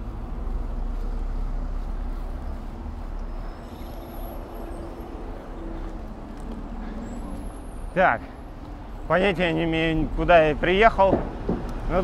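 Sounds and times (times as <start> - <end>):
city traffic: 0.0 - 12.0.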